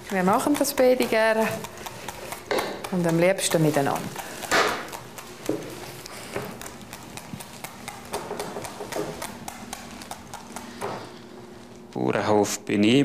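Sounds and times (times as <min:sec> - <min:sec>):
needle pricker tapping sausages: 0:00.0 - 0:11.8.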